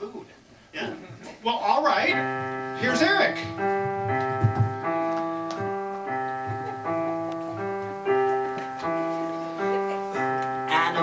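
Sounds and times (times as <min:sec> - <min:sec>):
piano chords ringing: 0:01.7 - 0:11.0.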